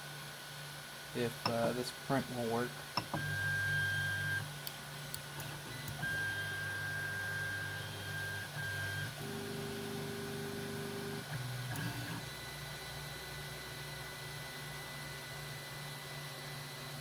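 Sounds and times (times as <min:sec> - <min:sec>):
printer stepper motors humming: 0:01.4 - 0:17.0.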